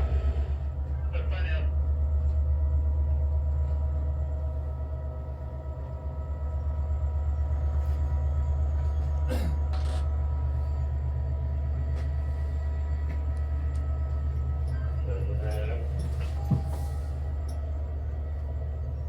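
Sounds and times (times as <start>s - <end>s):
train rumbling in motion: 0.0s - 19.0s.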